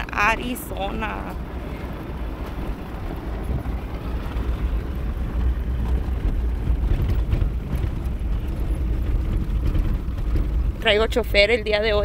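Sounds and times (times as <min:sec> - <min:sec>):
vehicle driving on dirt road: 0:00.0 - 0:12.0.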